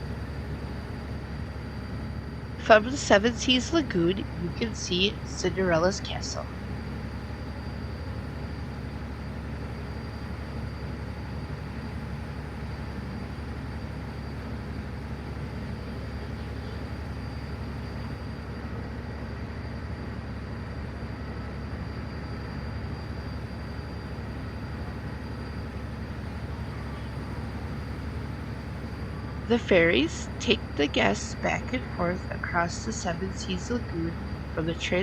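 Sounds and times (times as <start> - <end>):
boat engine drone: 0.0 - 35.0
faint high whine: 0.0 - 35.0.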